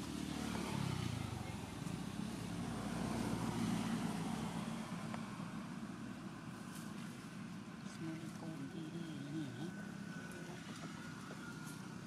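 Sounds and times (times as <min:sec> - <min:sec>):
passing vehicle engine: 0:00.0 - 0:12.0.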